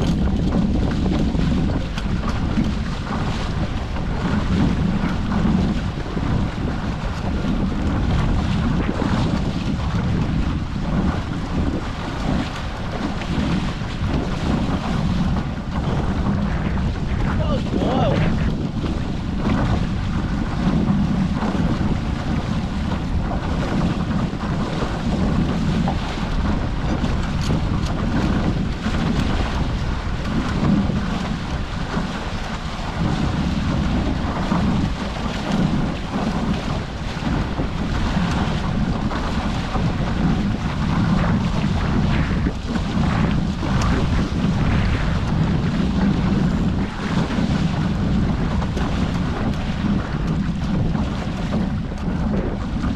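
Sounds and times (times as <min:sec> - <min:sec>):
water rushing along boat hulls: 0:00.0 - 0:52.9
wind buffeting microphone: 0:00.0 - 0:52.9.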